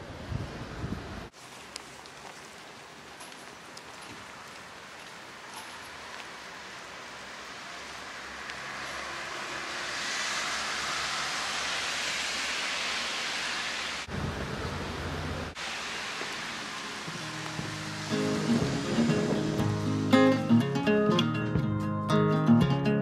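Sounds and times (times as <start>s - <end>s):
steady rushing hiss: 0.0s - 20.8s.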